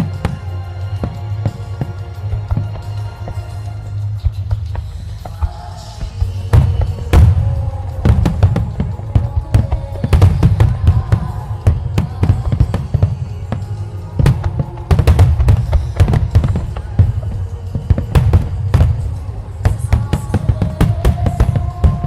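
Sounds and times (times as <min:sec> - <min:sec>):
firework bangs and booms: 0:00.0 - 0:22.0
music playing: 0:00.0 - 0:22.0.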